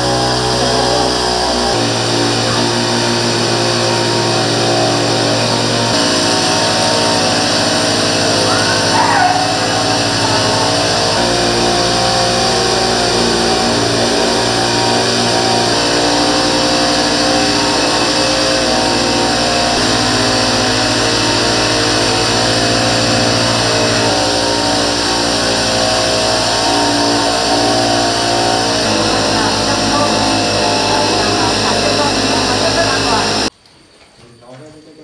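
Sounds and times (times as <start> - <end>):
small petrol engine running: 0.0 - 33.5.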